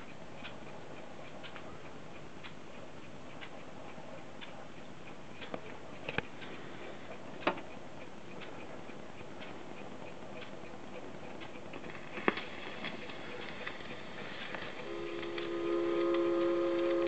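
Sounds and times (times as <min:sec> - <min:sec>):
alarm clock ticking: 0:00.0 - 0:17.0
faint steady hiss: 0:00.0 - 0:17.0.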